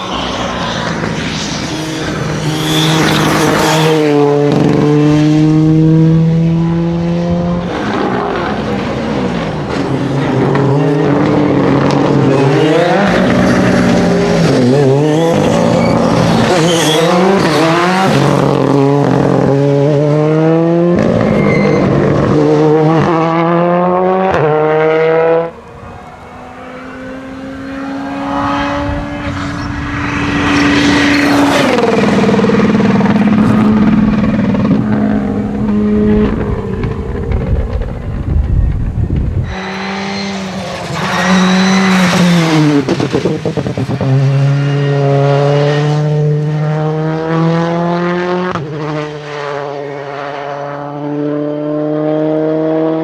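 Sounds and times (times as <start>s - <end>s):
rally car engine revving: 0.0s - 53.0s
rally car passing at speed: 0.0s - 53.0s.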